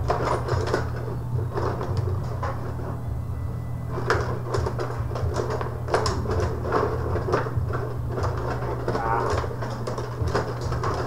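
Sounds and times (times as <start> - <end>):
metal rods sliding and rattling: 0.0 - 3.2, 3.8 - 11.0
low steady hum: 0.0 - 11.0.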